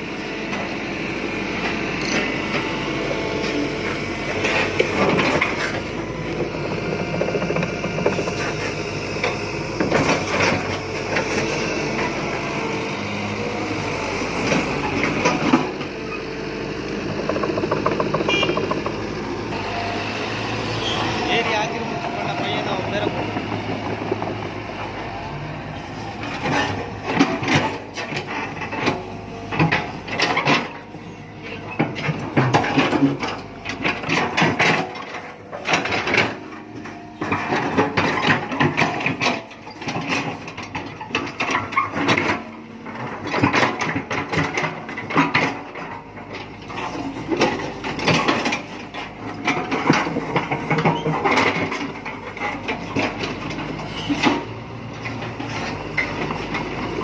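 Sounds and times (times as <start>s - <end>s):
engine running: 0.0s - 57.0s
machine clanking and scraping: 2.0s - 57.0s.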